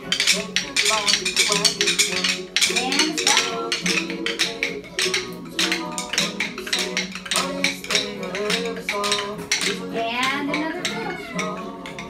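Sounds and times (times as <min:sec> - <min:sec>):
music with steady beat: 0:00.0 - 0:12.0
wooden rhythm sticks clicking: 0:00.0 - 0:12.0.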